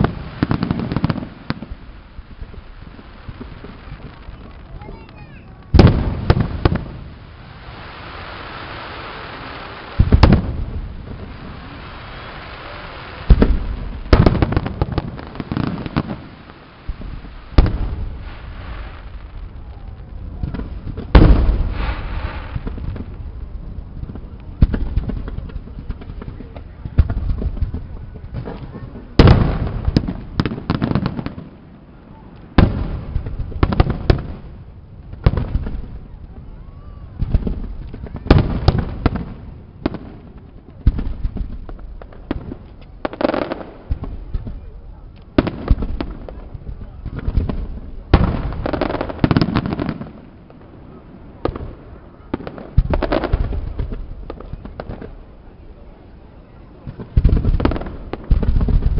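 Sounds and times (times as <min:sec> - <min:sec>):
firework booms: 0:00.0 - 0:55.8, 0:56.8 - 0:58.9
firework crackling: 0:00.0 - 0:58.9.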